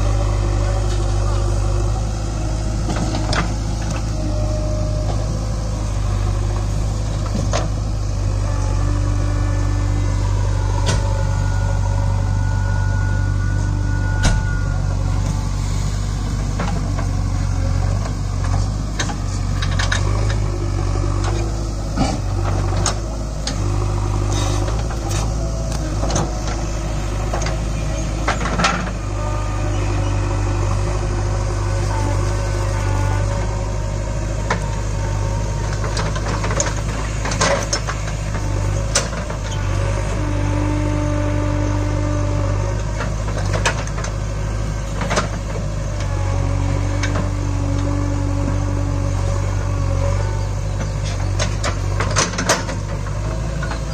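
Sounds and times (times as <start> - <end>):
diesel engine running: 0.0 - 53.9
hydraulic whine: 0.0 - 53.9.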